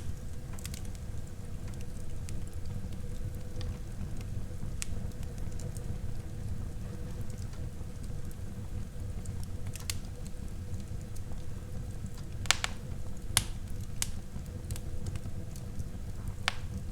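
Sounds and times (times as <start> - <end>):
fire crackles and pops: 0.0 - 16.9
low rumble of flames: 0.0 - 16.9.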